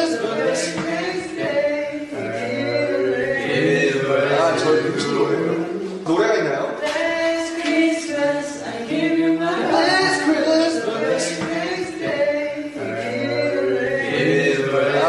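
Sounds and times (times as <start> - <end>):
young men singing unaccompanied: 0.0 - 6.1, 6.8 - 15.0.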